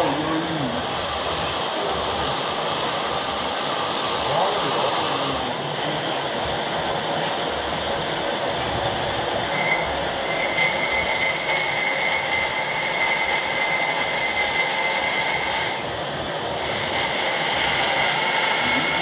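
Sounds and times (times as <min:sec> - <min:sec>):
high-pitched cutting whine: 0:00.0 - 0:19.0
lathe machine noise: 0:00.0 - 0:19.0.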